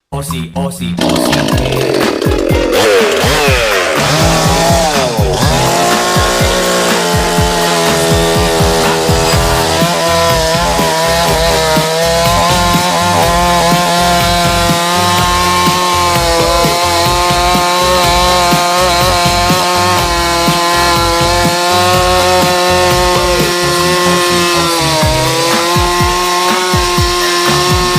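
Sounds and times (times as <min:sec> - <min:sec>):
chainsaw cutting wood: 0:01.0 - 0:27.9.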